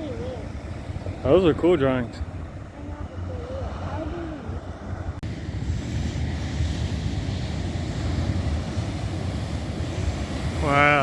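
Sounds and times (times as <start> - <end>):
ocean surf hissing: 0.0 - 11.0
wind buffeting microphone: 0.0 - 11.0.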